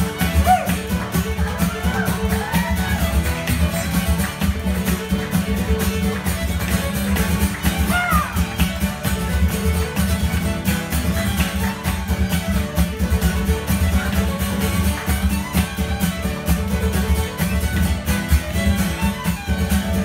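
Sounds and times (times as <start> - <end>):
acoustic guitar strumming: 0.0 - 20.0
fiddle melody: 0.0 - 20.0.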